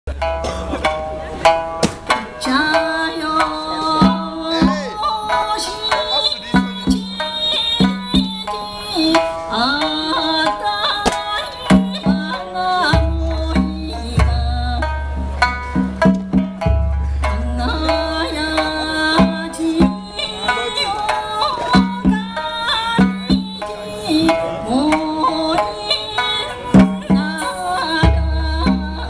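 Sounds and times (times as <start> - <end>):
percussion beat: 0.1 - 29.0
women singing: 2.4 - 15.0, 17.4 - 29.0.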